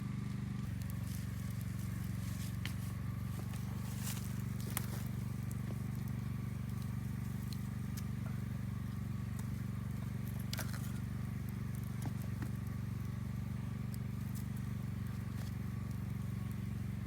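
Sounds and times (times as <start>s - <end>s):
steady low hum: 0.0s - 17.0s
campfire crackling and popping: 0.6s - 17.0s.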